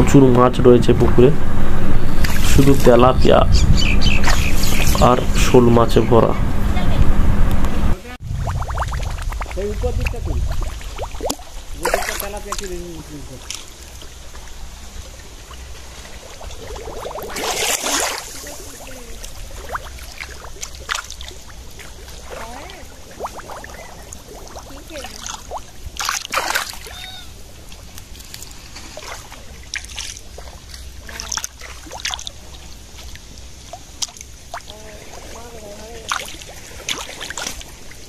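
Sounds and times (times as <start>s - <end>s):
steady low hum: 0.0s - 38.0s
fish splashing in shallow water: 1.8s - 3.0s, 3.8s - 5.2s, 8.2s - 38.0s.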